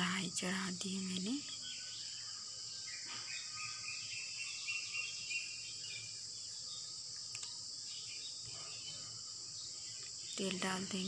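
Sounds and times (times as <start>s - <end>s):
faint steady tones: 0.0s - 11.0s
high-pitched background hiss: 0.0s - 11.0s.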